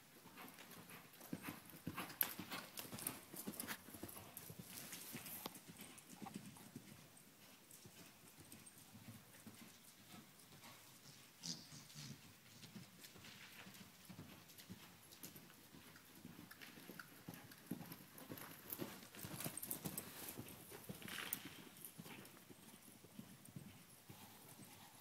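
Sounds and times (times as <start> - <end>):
horse hoofbeats on dirt: 0.2 - 25.0.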